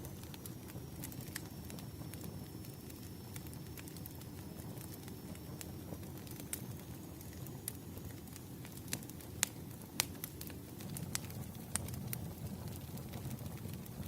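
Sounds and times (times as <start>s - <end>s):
fireplace crackling: 0.0s - 14.0s
low rumble of burning logs: 0.0s - 14.0s.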